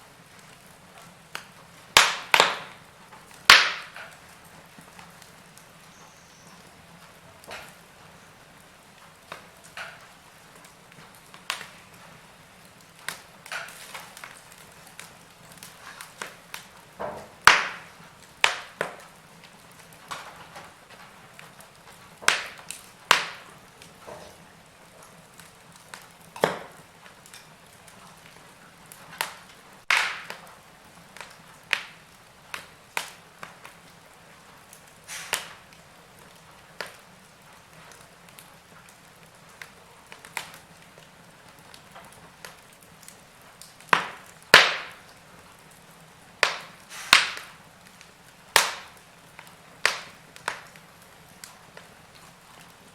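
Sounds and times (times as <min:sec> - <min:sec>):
faint steady hiss: 0:00.0 - 0:52.9
wood fire crackling and popping: 0:00.0 - 0:52.9.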